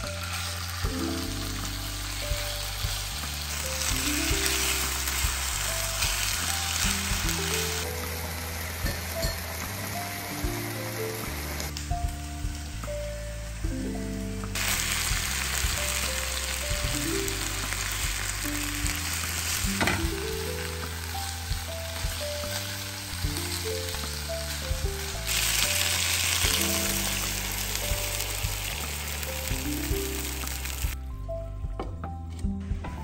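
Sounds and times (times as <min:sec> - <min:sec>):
chicken sizzling in a frying pan: 0:00.0 - 0:31.0
soft background music: 0:00.0 - 0:33.0.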